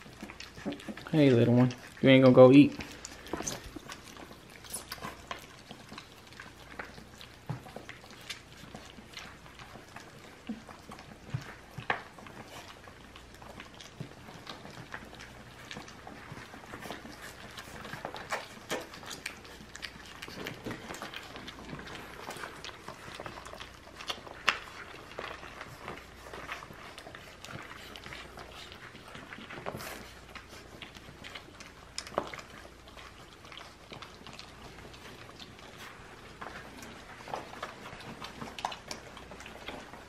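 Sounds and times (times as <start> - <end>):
puppies licking and smacking: 0.0 - 40.0.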